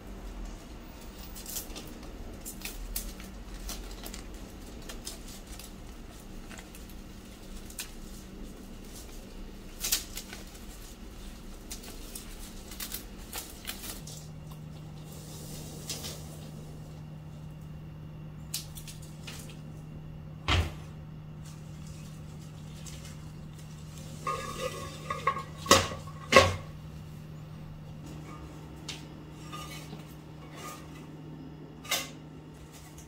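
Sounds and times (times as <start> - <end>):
dry branches rustling: 0.4 - 17.8, 21.3 - 31.2.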